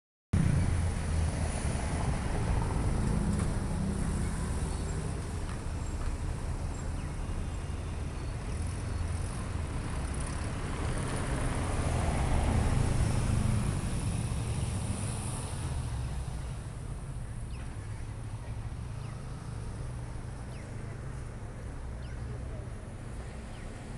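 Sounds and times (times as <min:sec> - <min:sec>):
rumble of passing vehicles: 0:00.4 - 0:23.9
vehicle passing by: 0:00.4 - 0:23.9.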